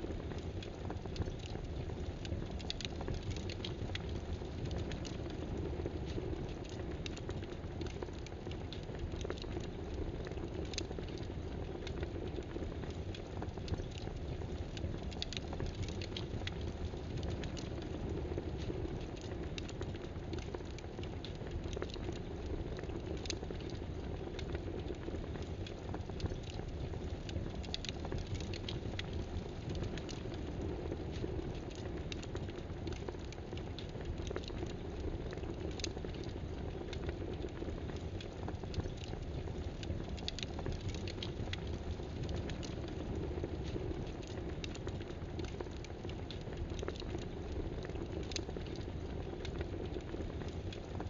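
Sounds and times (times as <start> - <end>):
rain-like pattering hiss: 0.0 - 51.0
small ticks and crackles: 0.0 - 51.0.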